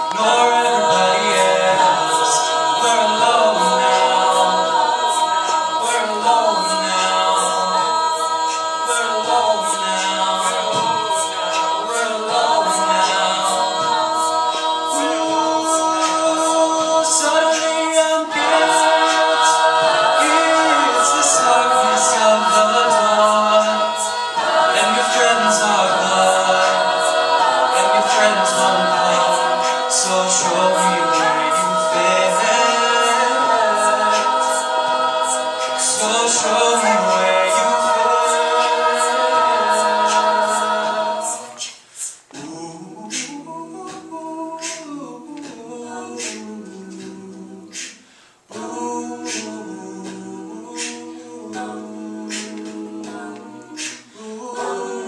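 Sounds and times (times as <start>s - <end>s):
a cappella group singing chords: 0.0s - 55.0s.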